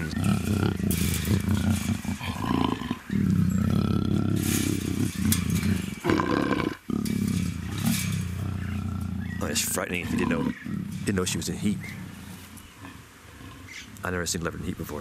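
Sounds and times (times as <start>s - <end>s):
leopard moaning growls: 0.0s - 14.0s.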